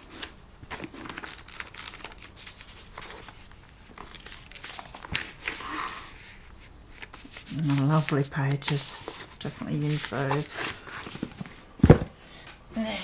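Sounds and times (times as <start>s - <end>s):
book pages flipping: 0.0s - 12.0s.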